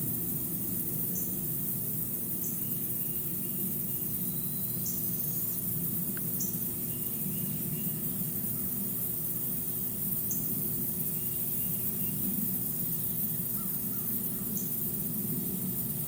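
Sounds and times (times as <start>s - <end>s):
steady hiss and low hum: 0.0s - 16.0s.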